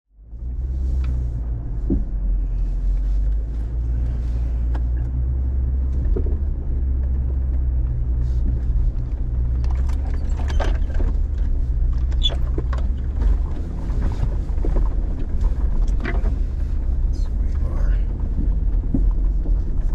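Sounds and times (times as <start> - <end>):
engine and drivetrain rumble: 0.1 - 19.9.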